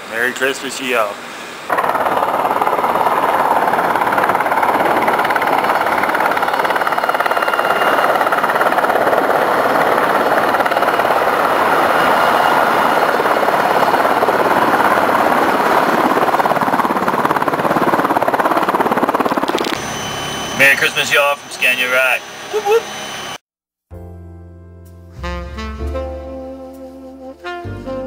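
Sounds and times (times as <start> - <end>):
faint turbine whine: 0.0 - 23.4
helicopter rotor roar: 0.1 - 23.4.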